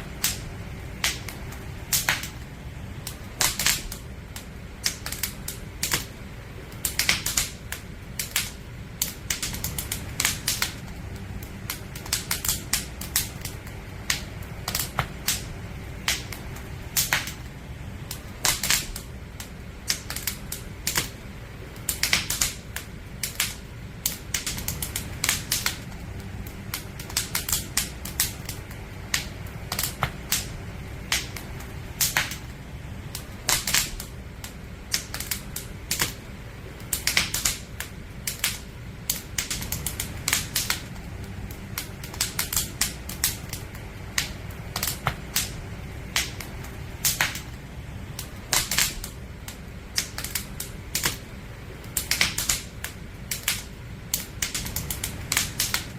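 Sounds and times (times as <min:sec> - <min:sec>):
firewood crackling and popping: 0:00.0 - 0:55.9
low rumble: 0:00.0 - 0:55.9.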